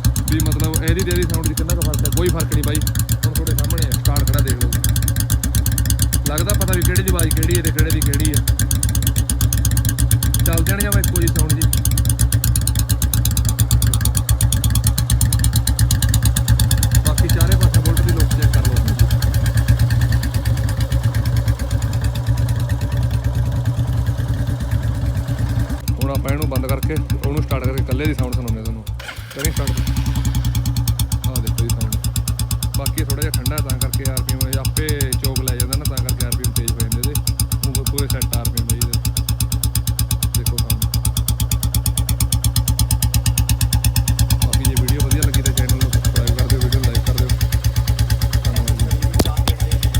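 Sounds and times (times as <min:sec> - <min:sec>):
motorcycle engines idling: 0:00.0 - 0:49.9.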